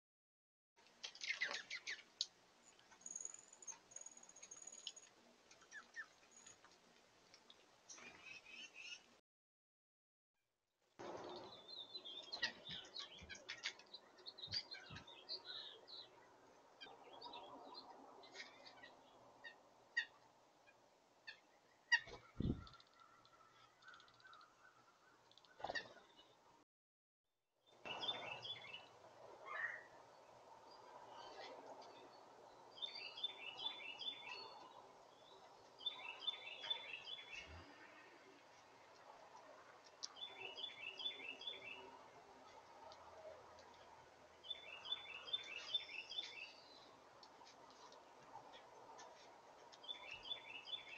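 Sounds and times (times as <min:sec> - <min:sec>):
songbirds chirping: 0:00.8 - 0:09.2, 0:11.0 - 0:26.6, 0:27.6 - 0:50.9.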